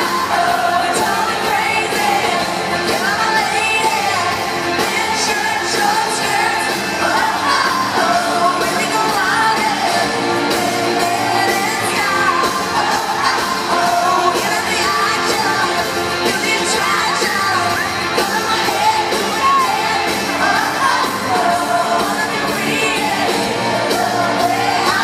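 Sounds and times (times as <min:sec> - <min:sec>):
full band playing: 0:00.0 - 0:25.0
steady drum beat: 0:00.0 - 0:25.0
woman singing lead: 0:00.0 - 0:25.0.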